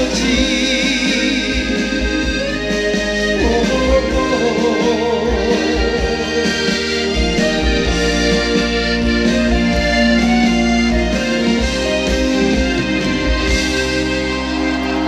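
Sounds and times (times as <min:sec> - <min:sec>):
pulsing bass beat: 0:00.0 - 0:15.0
wavering lead melody: 0:00.0 - 0:15.0.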